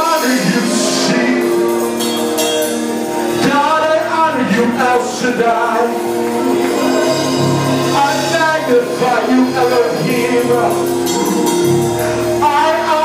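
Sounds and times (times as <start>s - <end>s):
held chords: 0.0s - 13.0s
voices singing gospel: 0.0s - 13.0s.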